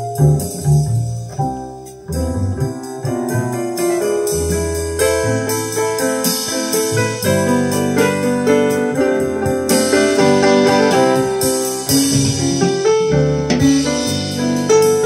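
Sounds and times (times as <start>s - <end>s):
deep bass notes: 0.0s - 15.0s
jazz piano run: 0.0s - 15.0s.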